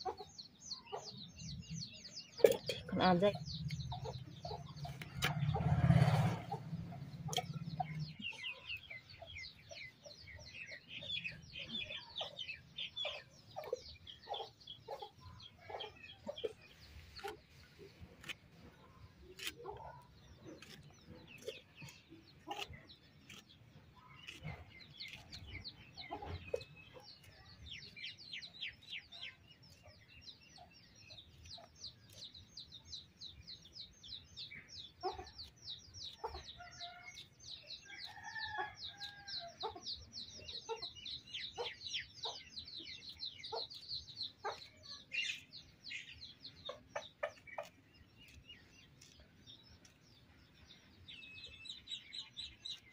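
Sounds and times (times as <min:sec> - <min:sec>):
chickens clucking and chirping: 0:00.0 - 0:52.9.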